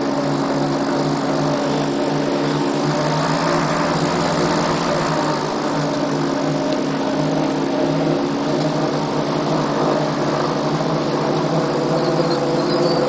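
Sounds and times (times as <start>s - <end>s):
aircraft engine running steadily: 0.0s - 13.0s.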